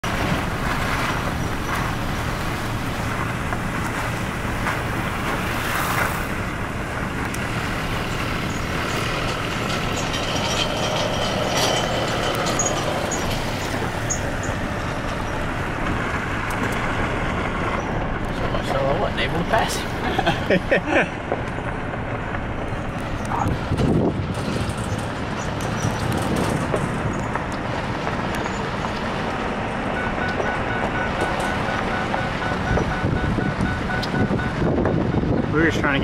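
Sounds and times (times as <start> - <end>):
road noise: 0.0 - 36.0
vehicle engine running: 0.0 - 36.0.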